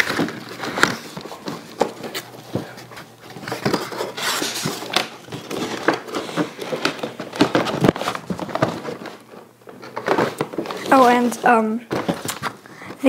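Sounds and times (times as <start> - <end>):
plastic packaging rustling: 0.0 - 13.0.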